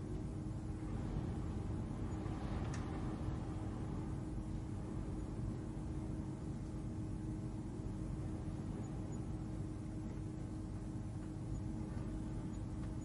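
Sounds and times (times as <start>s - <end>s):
constant hum tone: 0.0s - 13.0s
low rumble drone: 0.0s - 13.0s.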